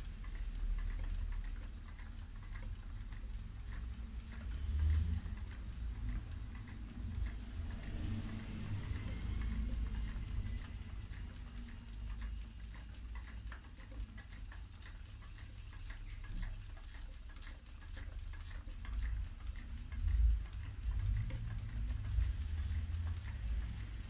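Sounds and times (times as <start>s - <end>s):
spinning wheel clicking: 0.0s - 24.0s.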